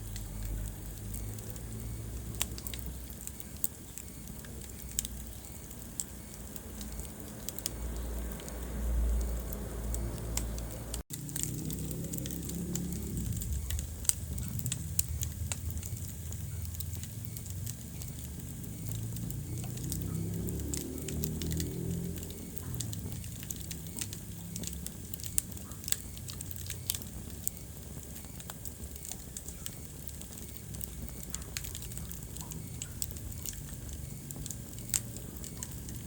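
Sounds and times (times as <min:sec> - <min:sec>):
low rumble of flames: 0:00.0 - 0:36.0
wood fire crackling: 0:00.0 - 0:36.0.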